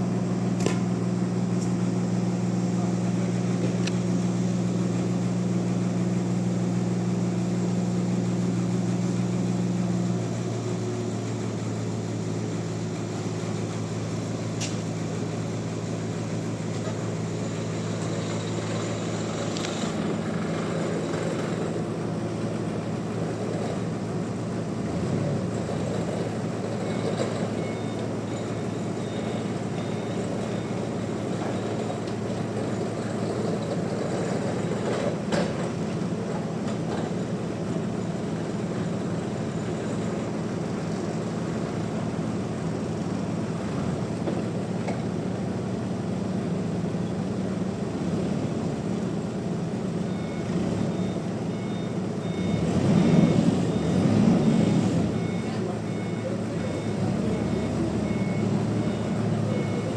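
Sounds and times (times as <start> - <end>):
sawmill machine hum: 0.0 - 59.9.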